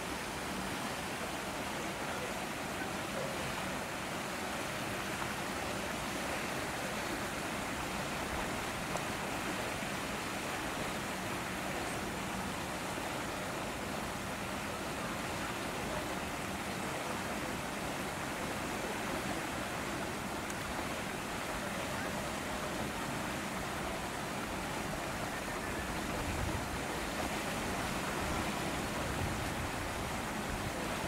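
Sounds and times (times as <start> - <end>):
rushing outdoor background noise: 0.0 - 31.0.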